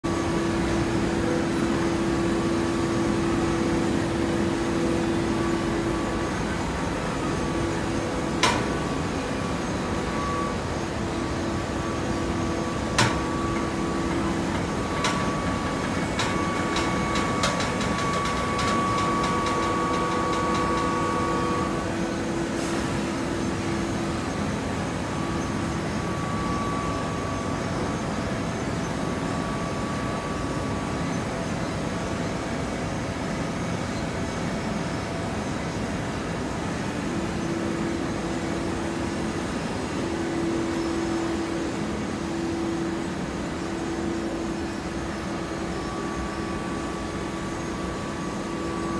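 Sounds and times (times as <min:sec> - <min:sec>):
baler machine hum: 0:00.1 - 0:48.9.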